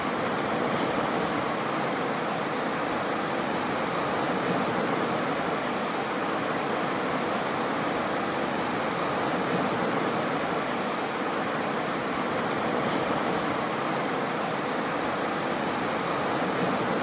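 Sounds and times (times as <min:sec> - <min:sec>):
small waves washing onto sand: 0:00.0 - 0:17.0.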